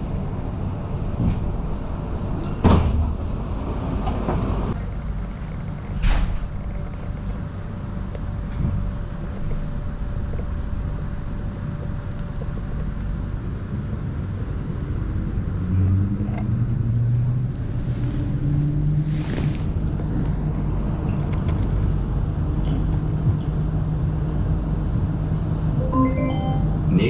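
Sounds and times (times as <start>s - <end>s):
tram running gear rumble: 0.0s - 25.7s.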